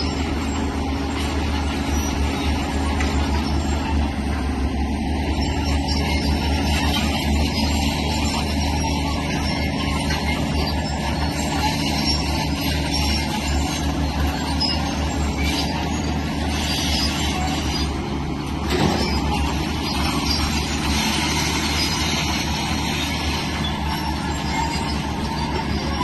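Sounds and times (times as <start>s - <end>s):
diesel engine under load: 0.0s - 26.0s
metallic squealing and scraping: 0.0s - 26.0s.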